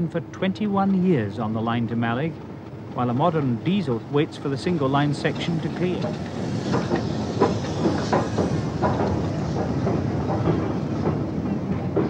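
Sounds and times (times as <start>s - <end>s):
steam train rumbling past: 0.0s - 12.0s
wheels clicking over rail joints: 0.0s - 12.0s.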